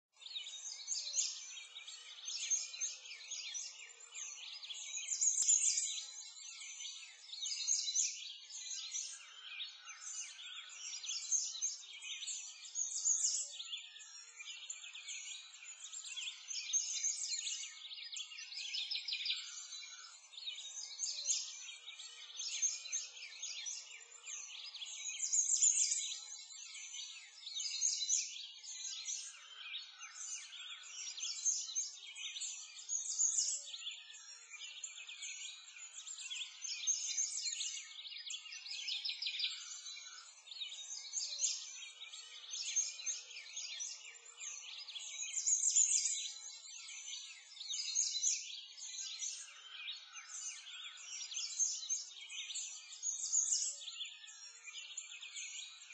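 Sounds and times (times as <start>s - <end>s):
birds chirping and singing: 0.2s - 55.9s.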